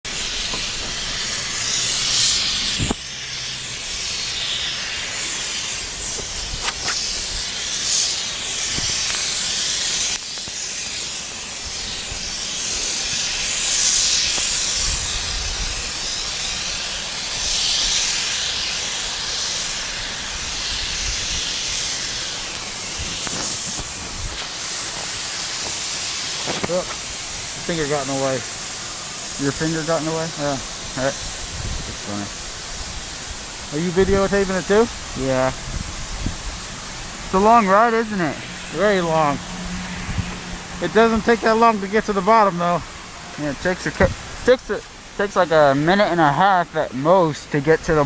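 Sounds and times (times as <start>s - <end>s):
wind hissing on microphone: 0.1s - 48.0s.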